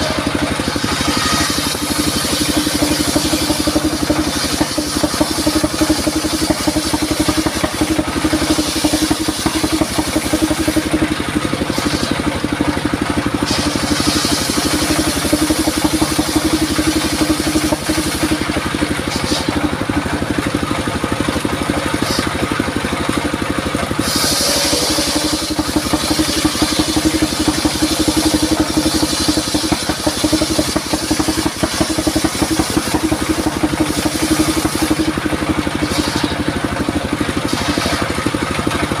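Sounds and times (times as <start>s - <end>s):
high hissing saw cutting: 0.0s - 12.3s, 13.3s - 19.8s, 21.8s - 22.4s, 23.8s - 36.5s
sawmill engine running: 0.0s - 39.0s.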